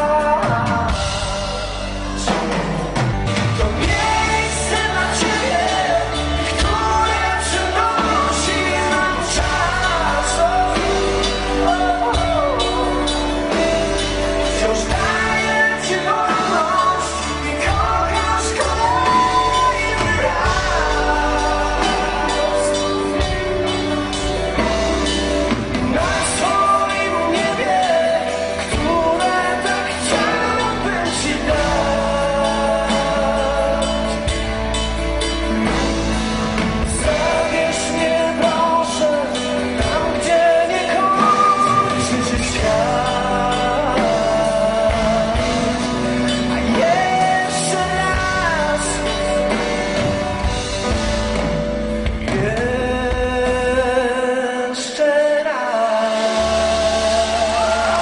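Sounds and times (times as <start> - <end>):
bass guitar: 0.0 - 58.0
drums: 0.0 - 58.0
live rock band playing: 0.0 - 58.0
man singing: 0.0 - 58.0.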